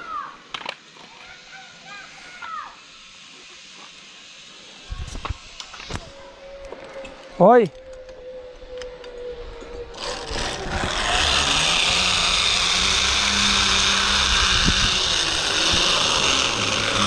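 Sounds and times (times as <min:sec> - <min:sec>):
zipline pulleys whirring on cable: 0:00.0 - 0:17.0.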